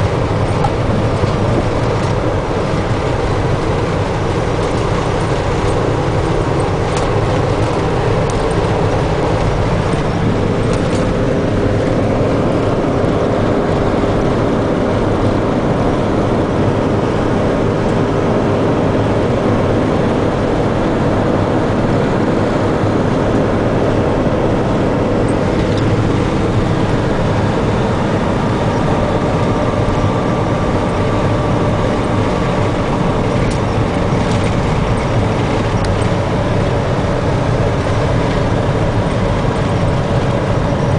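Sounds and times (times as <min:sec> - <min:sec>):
minibus engine and road drone: 0:00.0 - 0:40.9.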